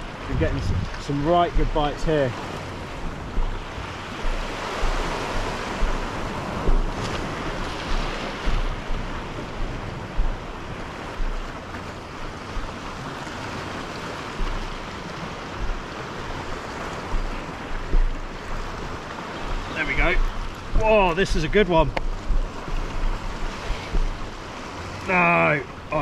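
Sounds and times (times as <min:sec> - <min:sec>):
water lapping: 0:00.0 - 0:26.0
waves breaking on rocks: 0:00.0 - 0:26.0
wind buffeting microphone: 0:00.0 - 0:26.0.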